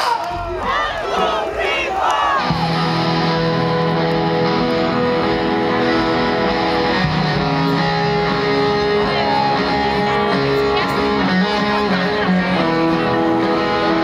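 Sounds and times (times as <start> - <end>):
punk rock band playing: 2.4 - 14.0.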